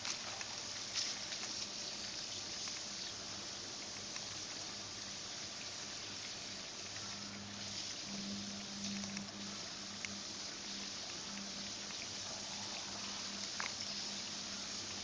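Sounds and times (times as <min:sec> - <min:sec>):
faint low hum: 0:00.0 - 0:15.0
water jet hissing from hose leak: 0:00.0 - 0:15.0
water spattering on ground: 0:00.0 - 0:15.0.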